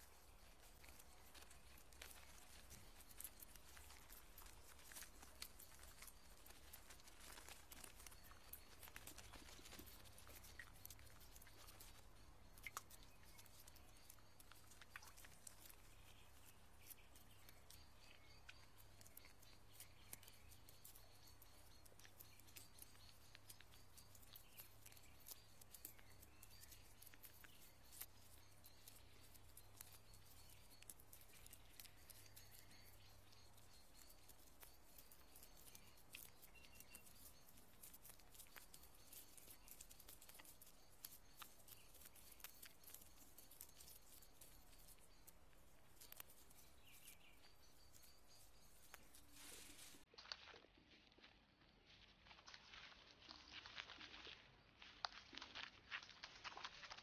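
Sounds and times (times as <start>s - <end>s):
faint scattered ticks: 0.0s - 50.6s, 51.9s - 57.0s.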